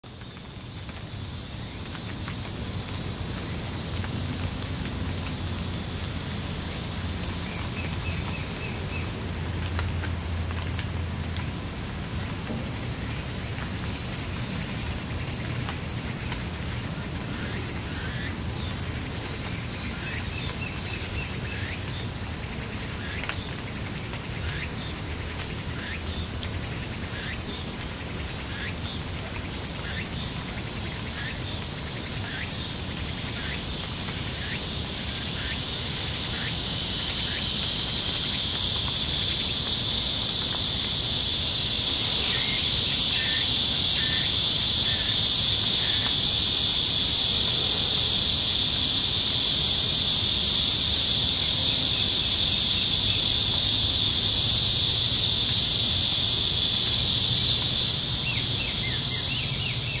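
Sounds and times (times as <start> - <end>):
high-pitched insect chorus: 0.0 - 60.0.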